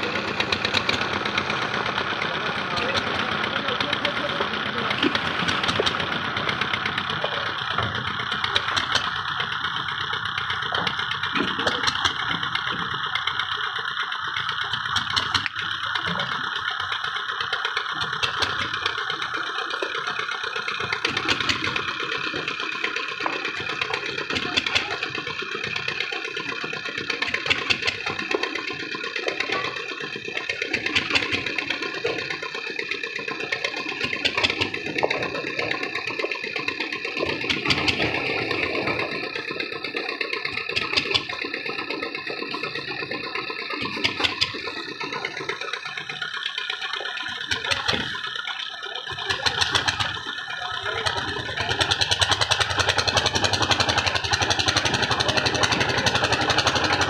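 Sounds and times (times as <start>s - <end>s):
machine engine rattling: 0.0s - 57.0s.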